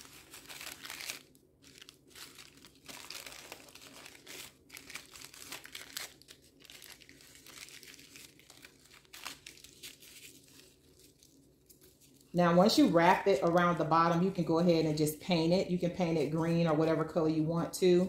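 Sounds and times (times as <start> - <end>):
filter paper crinkling: 0.0 - 15.0.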